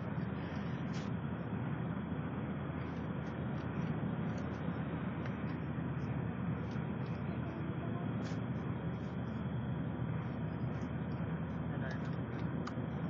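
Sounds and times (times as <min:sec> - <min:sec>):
coach engine droning: 0:00.0 - 0:13.0.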